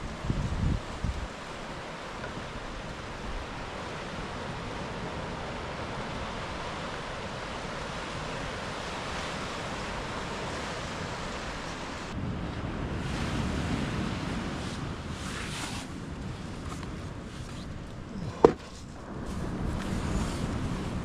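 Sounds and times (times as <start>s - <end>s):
ocean surf washing in: 0.0s - 21.0s
wind rumble on microphone: 0.0s - 21.0s.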